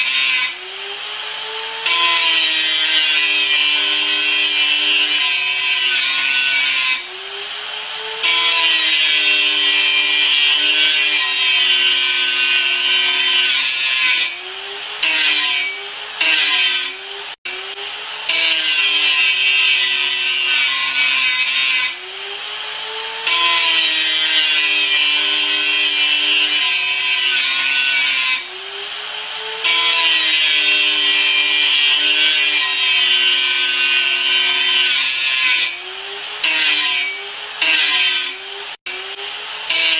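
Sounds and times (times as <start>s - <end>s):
electric grinder grinding: 0.0s - 39.9s.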